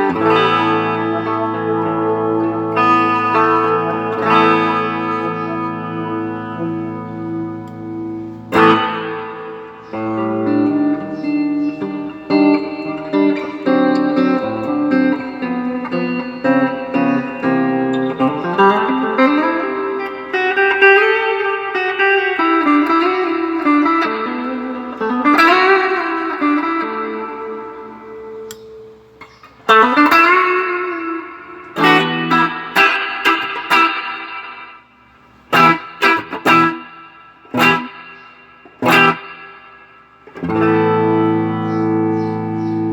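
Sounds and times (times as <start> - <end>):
electric guitar with reverb: 0.0 - 42.9.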